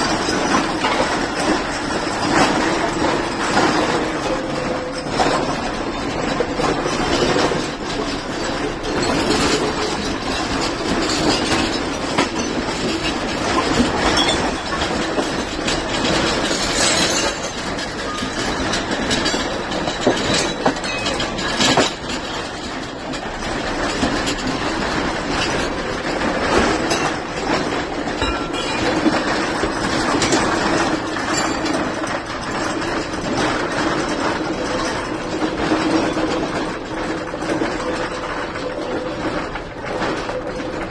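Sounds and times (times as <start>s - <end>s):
objects rattling and clattering: 0.0s - 40.9s.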